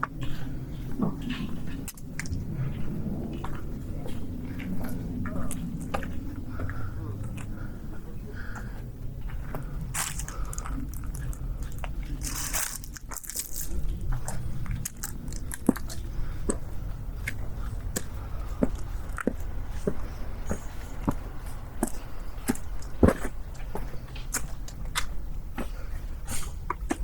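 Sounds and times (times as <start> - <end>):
footsteps walking: 0.0 - 27.0
low steady rumble: 0.0 - 27.0.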